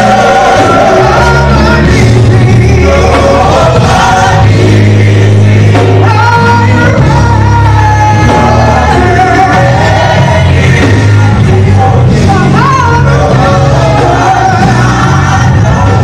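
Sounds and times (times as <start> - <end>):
gospel song with vocals: 0.0 - 16.0.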